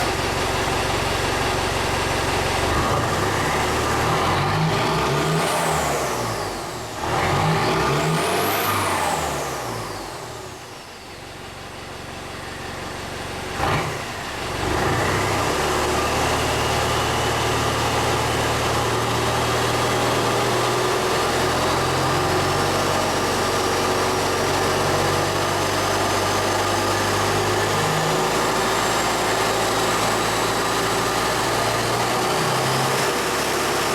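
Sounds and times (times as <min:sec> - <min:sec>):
diesel engine revving: 0:00.0 - 0:10.9, 0:13.4 - 0:33.9.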